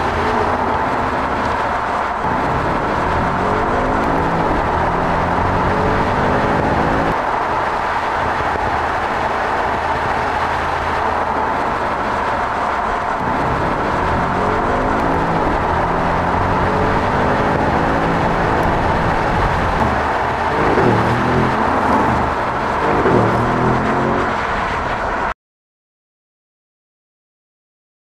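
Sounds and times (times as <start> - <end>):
car engine running: 0.0 - 25.3.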